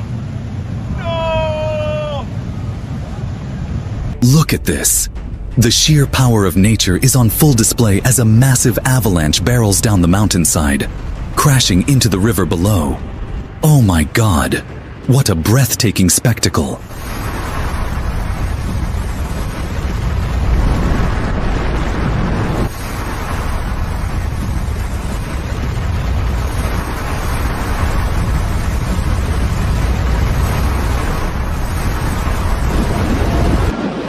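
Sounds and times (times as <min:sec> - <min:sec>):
avalanche rushing rumble: 0:00.0 - 0:34.0.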